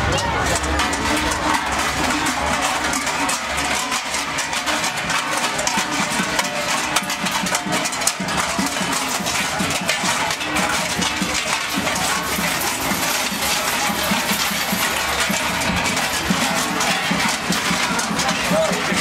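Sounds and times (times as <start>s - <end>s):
large cowbells clanging: 0.0s - 19.0s.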